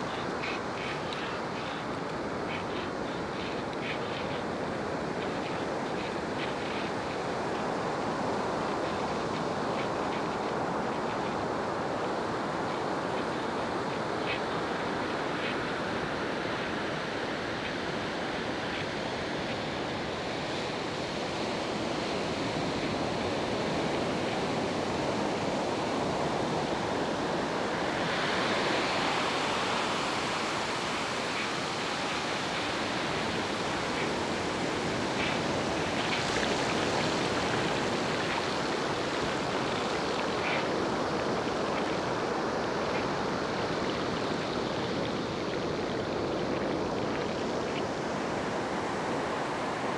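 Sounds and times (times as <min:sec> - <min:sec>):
wind on microphone: 0:00.0 - 0:49.9.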